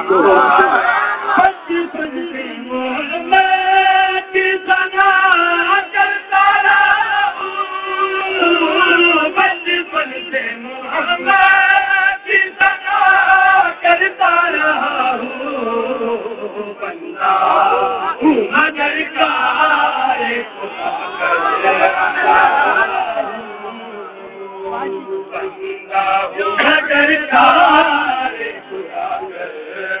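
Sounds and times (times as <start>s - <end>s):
man singing devotional chant: 1.4s - 20.8s, 21.5s - 30.0s.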